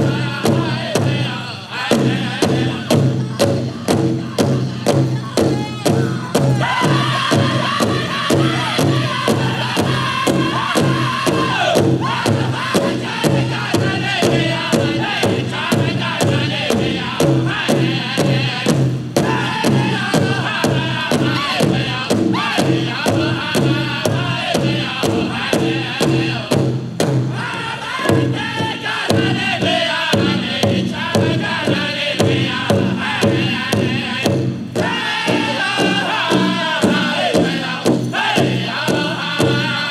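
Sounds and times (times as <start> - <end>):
big drum beating fast: 0.0 - 39.9
group of voices singing: 0.0 - 39.9.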